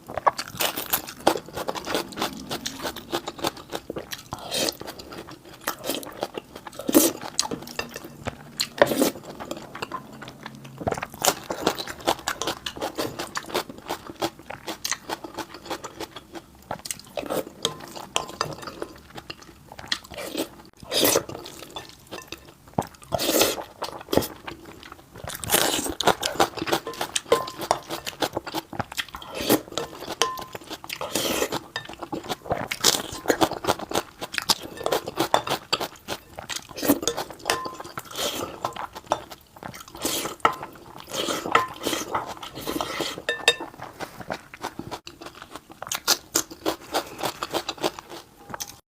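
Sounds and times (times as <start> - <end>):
person chewing and crunching food: 0.0 - 48.8.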